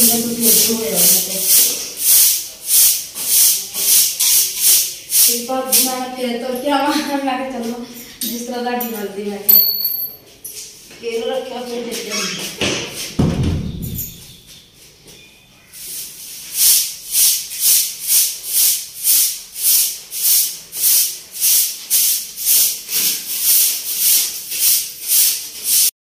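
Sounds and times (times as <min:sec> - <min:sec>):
broom sweeping a hard floor: 0:00.0 - 0:08.1, 0:10.2 - 0:13.2, 0:14.0 - 0:25.9.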